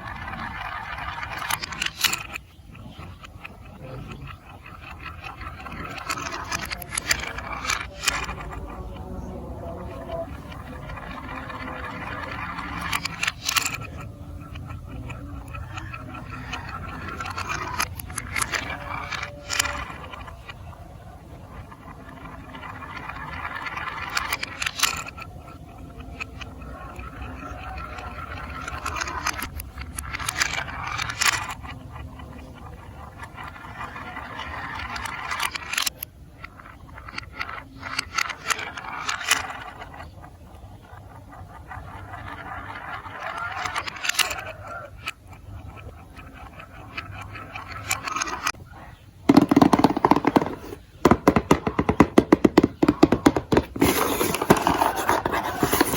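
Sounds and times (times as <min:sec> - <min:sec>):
marbles clicking against pieces: 0:00.0 - 0:55.9
marbles rolling down plastic track: 0:00.0 - 0:55.9.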